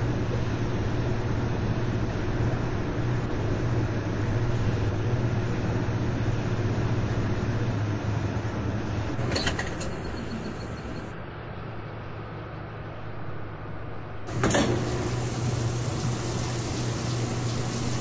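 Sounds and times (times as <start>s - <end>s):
washing machines churning: 0.0s - 11.4s, 14.3s - 18.0s.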